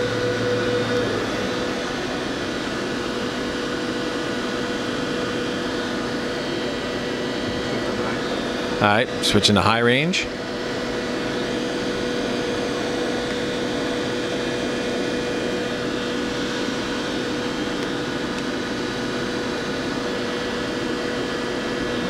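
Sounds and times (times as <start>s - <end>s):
lathe machine hum with whine: 0.0s - 22.0s.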